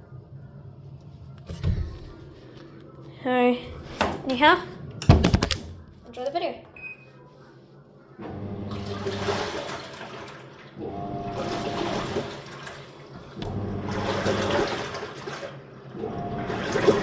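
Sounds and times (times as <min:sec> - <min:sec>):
washing machine motor humming: 0:00.0 - 0:07.1, 0:08.0 - 0:17.0.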